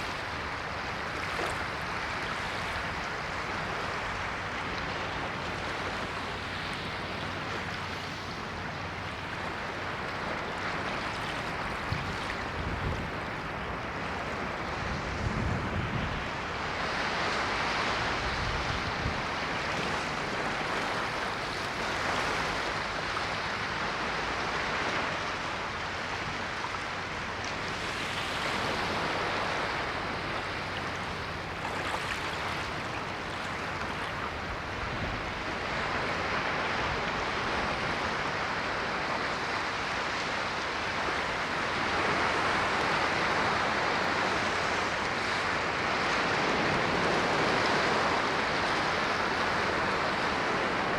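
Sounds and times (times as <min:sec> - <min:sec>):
ocean waves breaking: 0:00.0 - 0:50.9.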